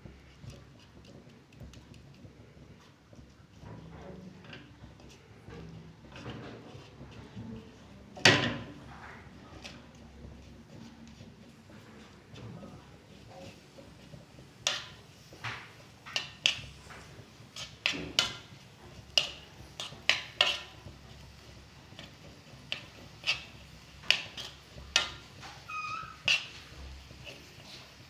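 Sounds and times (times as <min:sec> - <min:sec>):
spoon scraping a cooking pan: 0:00.1 - 0:28.0.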